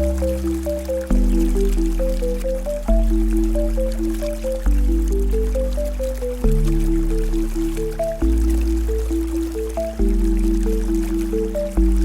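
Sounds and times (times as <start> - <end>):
faint rain patter: 0.0 - 12.0
slow calm background music: 0.0 - 12.0.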